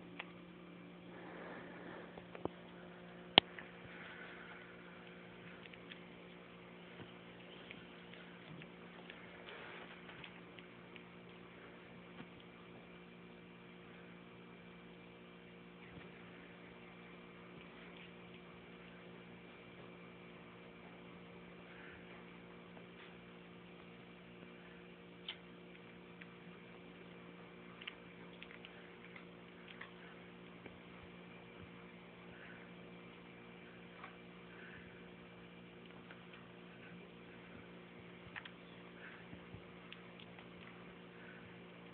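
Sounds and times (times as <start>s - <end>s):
low electrical hum: 0.0s - 41.9s.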